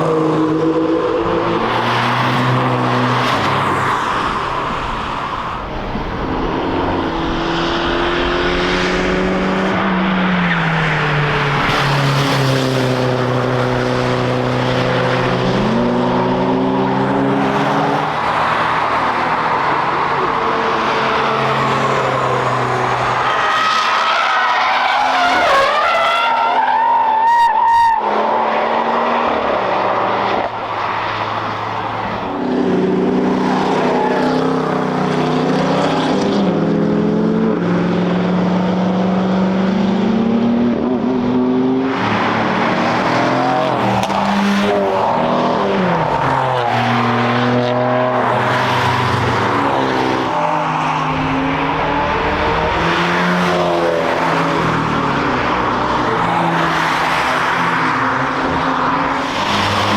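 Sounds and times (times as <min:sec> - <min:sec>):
engines revving: 0:00.0 - 0:26.7, 0:27.8 - 0:59.9
cars passing at speed: 0:00.0 - 0:59.9.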